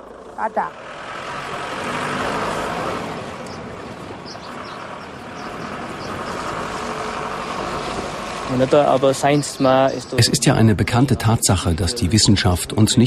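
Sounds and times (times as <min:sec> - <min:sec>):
car engine passing: 0:00.0 - 0:13.0
tyres rolling on gravel: 0:00.1 - 0:13.0.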